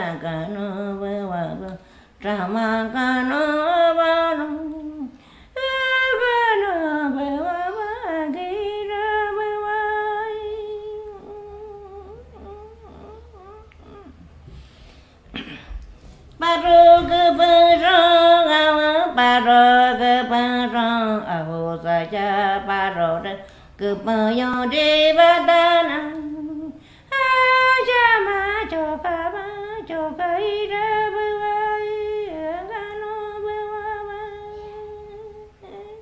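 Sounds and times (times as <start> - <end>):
woman humming chant-like melody: 0.0 - 14.4, 16.4 - 36.0.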